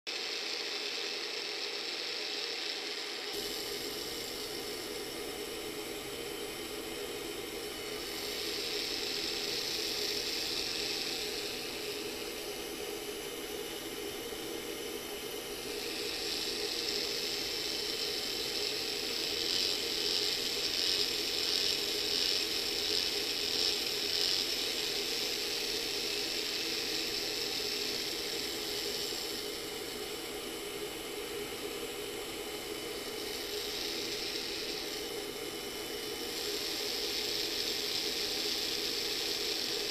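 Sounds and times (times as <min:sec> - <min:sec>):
tattoo machine buzzing: 0:00.1 - 0:39.9.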